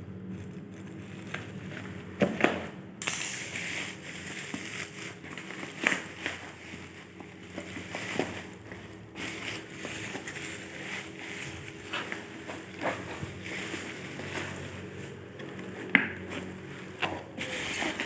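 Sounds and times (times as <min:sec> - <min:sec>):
packaging rustling and crinkling: 0:00.2 - 0:18.0.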